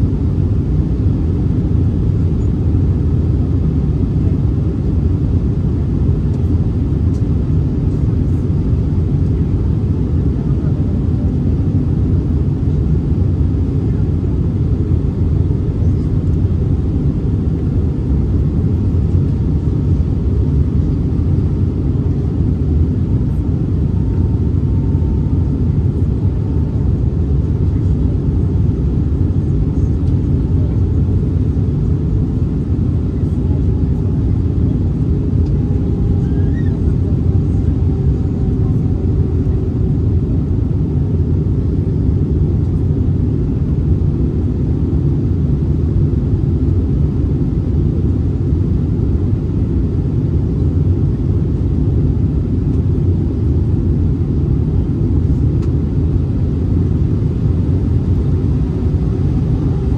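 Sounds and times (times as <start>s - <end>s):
airplane cabin engine rumble: 0.0s - 59.9s
faint whine: 0.0s - 59.9s.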